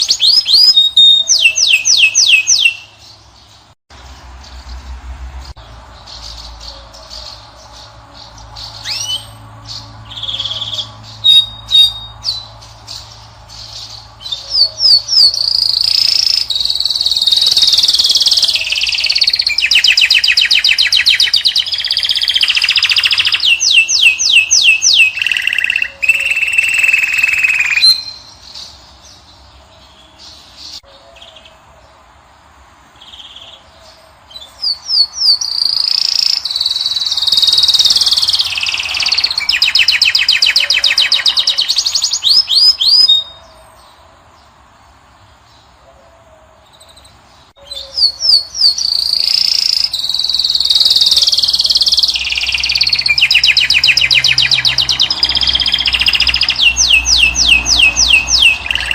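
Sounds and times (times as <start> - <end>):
finch twittering and trilling: 0.0 - 31.6, 33.0 - 44.0, 46.7 - 58.9.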